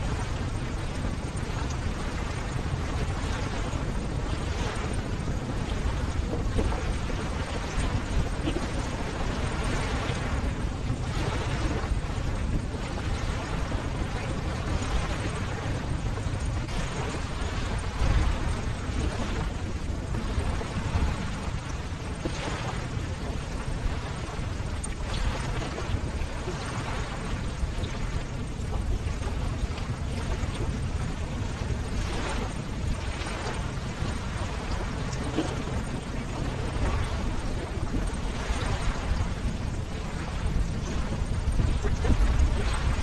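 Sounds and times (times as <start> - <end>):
ocean waves breaking on shore: 0.0 - 43.0.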